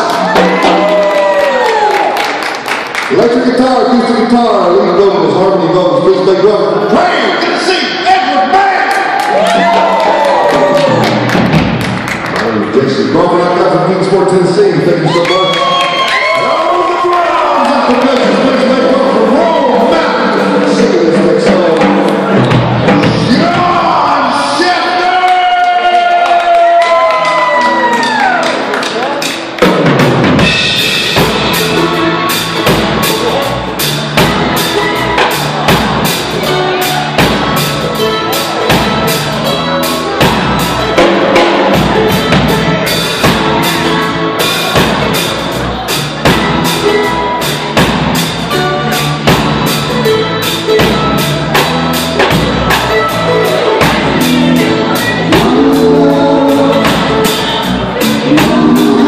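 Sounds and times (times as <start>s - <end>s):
drum kit beat: 0.0s - 3.2s, 9.3s - 12.4s, 15.9s - 24.1s, 24.8s - 59.0s
live reggae band: 0.0s - 59.0s.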